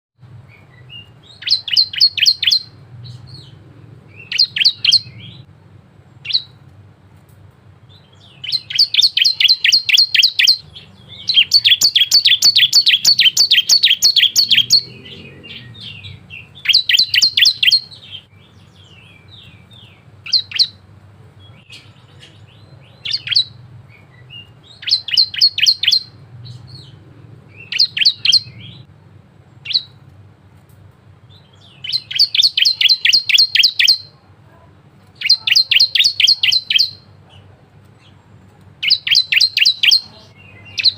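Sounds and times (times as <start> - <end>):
bird singing high chipping trills: 0.2 - 5.5, 7.8 - 28.9, 29.5 - 30.1, 31.2 - 34.2, 35.2 - 37.1, 38.8 - 40.9.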